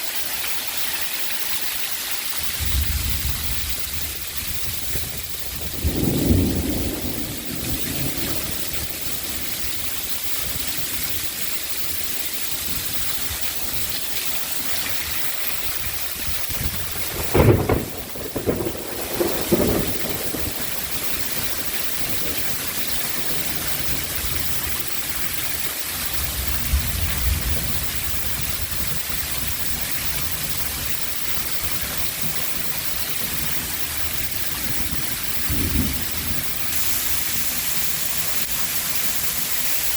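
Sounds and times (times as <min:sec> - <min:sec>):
heavy rain pouring: 0:00.0 - 0:39.9
thunder rumbling: 0:02.4 - 0:12.0, 0:15.6 - 0:39.8.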